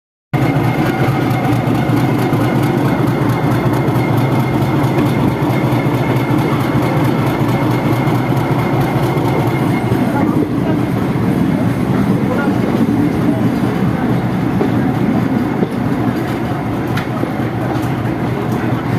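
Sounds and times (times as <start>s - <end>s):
train wheels rumbling on rail: 0.4s - 18.9s.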